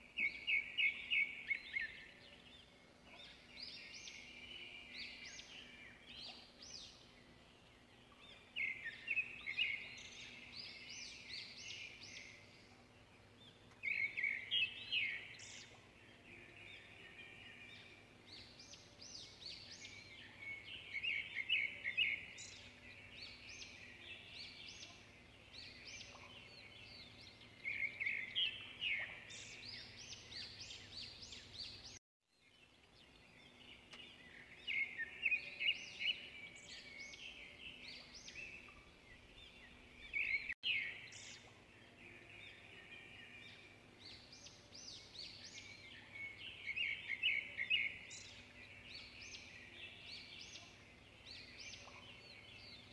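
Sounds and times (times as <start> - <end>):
birds twittering: 0.0 - 52.9.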